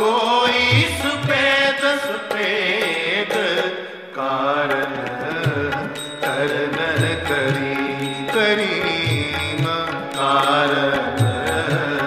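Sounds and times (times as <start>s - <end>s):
devotional song melody: 0.0s - 12.0s.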